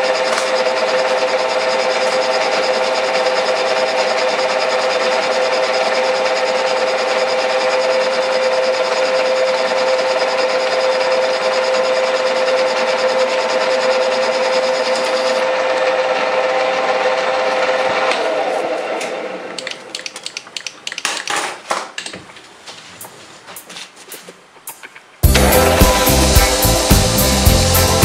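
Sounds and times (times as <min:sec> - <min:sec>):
metal lathe whine: 0:00.0 - 0:20.0, 0:25.2 - 0:28.0.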